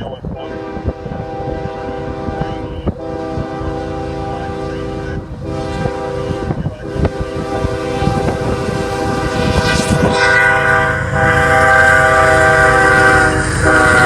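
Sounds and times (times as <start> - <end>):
passing train rumble and clatter: 0.0 - 14.0
train horn chord: 0.5 - 14.0.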